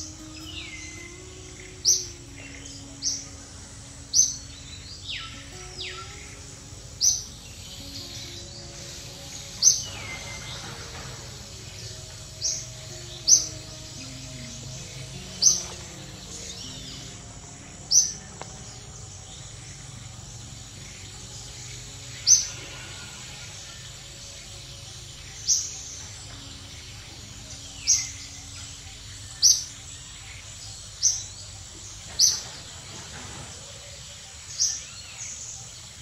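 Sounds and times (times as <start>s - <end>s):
forest background hiss: 0.0s - 36.0s.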